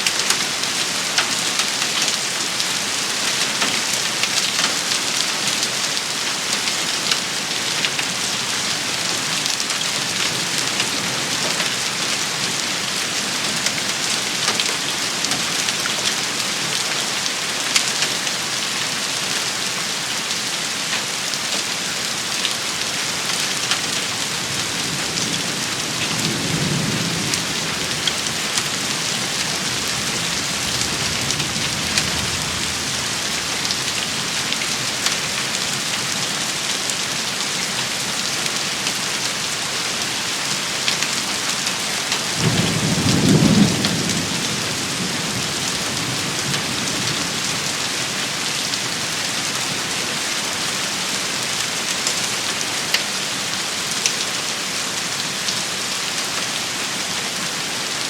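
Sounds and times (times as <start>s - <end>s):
rain falling on surfaces: 0.0s - 58.0s.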